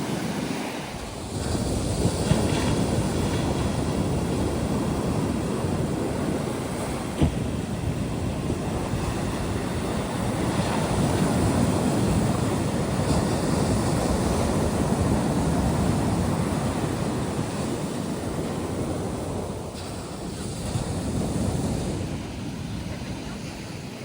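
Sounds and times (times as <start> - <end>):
surf washing up a sandy beach: 0.0 - 24.0
wind buffeting the microphone: 0.0 - 24.0.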